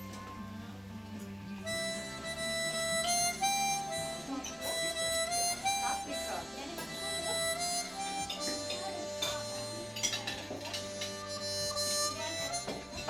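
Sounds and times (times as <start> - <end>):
harmonica slow melody: 0.0 - 13.0.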